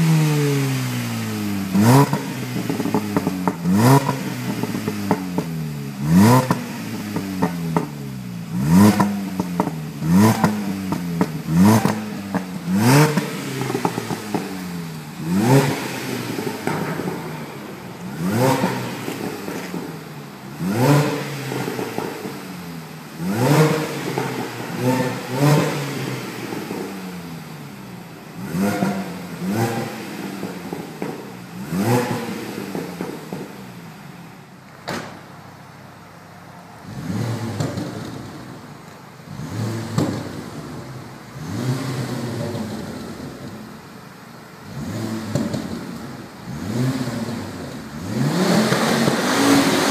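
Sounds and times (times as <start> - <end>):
car engine revving: 0.0 - 34.4, 36.8 - 49.9
exhaust pops and crackles: 1.7 - 8.0, 8.6 - 20.2, 20.8 - 22.5, 23.4 - 27.0, 28.6 - 33.8, 37.2 - 44.4, 45.2 - 49.9.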